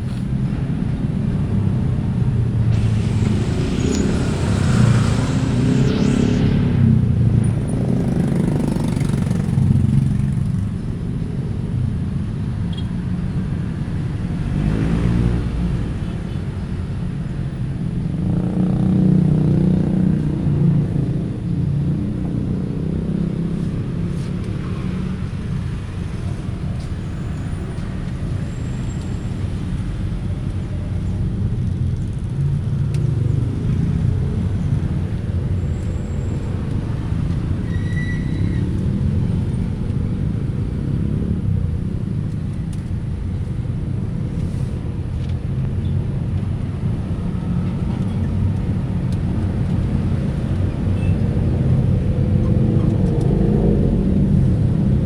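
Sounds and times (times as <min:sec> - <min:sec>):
cars and motorcycles passing: 0:00.0 - 0:55.0
low traffic rumble: 0:00.0 - 0:55.0.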